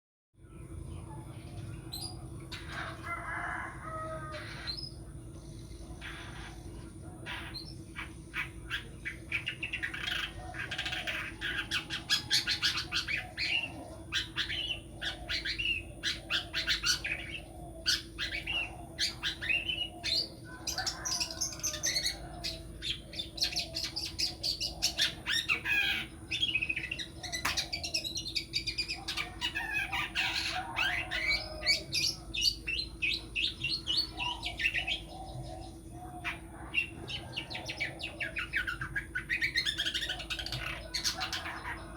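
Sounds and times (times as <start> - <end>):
bird singing rapid chirps: 4.2 - 41.9.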